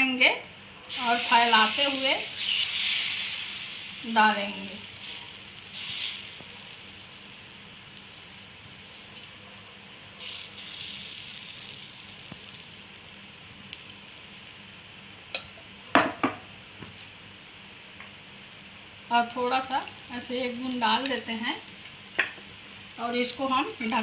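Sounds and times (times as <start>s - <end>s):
batter sizzling on griddle: 0.9s - 24.0s.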